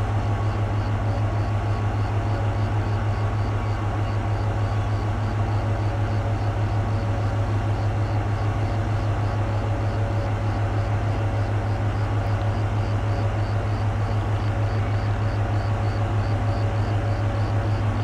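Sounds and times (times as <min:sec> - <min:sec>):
diesel locomotive engine drone: 0:00.0 - 0:18.0.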